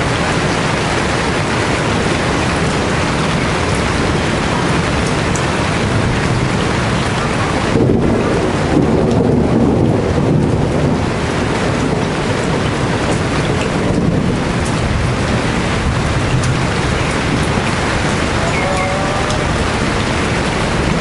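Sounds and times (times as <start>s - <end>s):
heavy rain pouring: 0.0s - 21.0s
low rumble of thunder: 0.0s - 21.0s.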